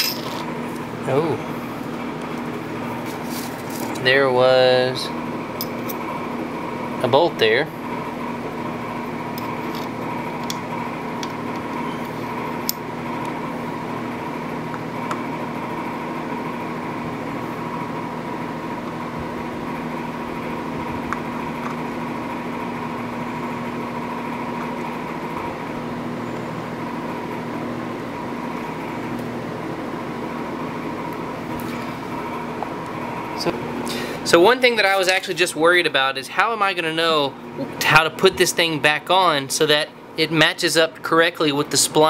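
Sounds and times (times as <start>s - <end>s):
machine hum: 0.0s - 42.0s.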